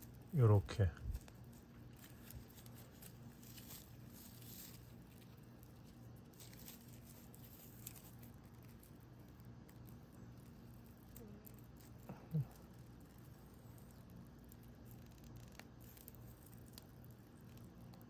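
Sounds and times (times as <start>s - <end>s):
low steady hum: 0.0s - 18.0s
yarn rustling and scratching: 0.0s - 18.0s.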